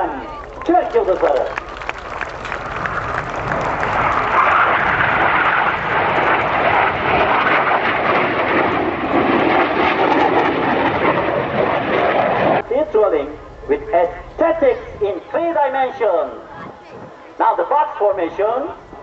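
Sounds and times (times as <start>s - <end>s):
jet roaring overhead: 0.0s - 19.0s.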